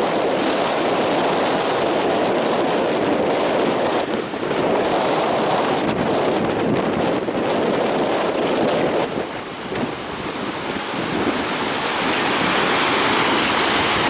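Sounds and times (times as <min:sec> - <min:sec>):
heavy surf: 0:00.0 - 0:14.0
strong wind on microphone: 0:00.0 - 0:14.0.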